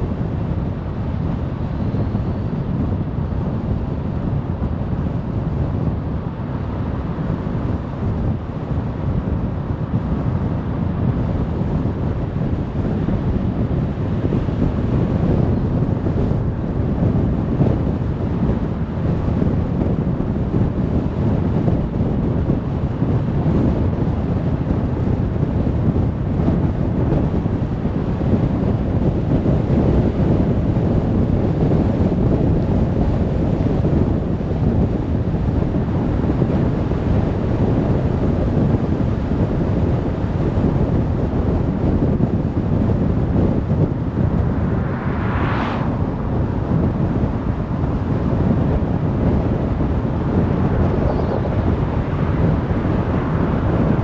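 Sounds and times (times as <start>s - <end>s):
tyre and wind road noise: 0.0s - 54.0s.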